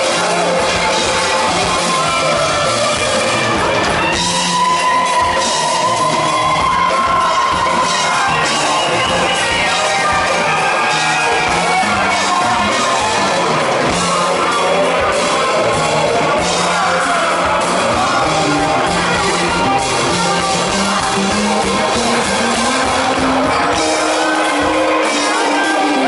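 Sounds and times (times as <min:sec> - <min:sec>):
crowd yelling and whooping: 0:00.0 - 0:26.0
person singing: 0:00.0 - 0:26.0
rock band playing live: 0:00.0 - 0:26.0.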